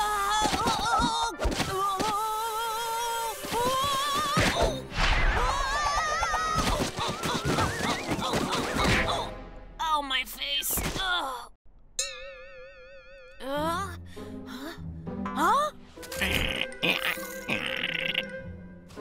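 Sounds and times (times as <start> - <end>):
background music: 0.0 - 10.5, 12.0 - 19.0.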